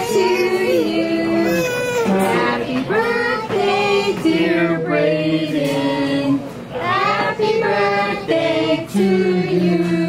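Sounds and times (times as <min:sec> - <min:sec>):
child and woman singing: 0:00.0 - 0:10.0.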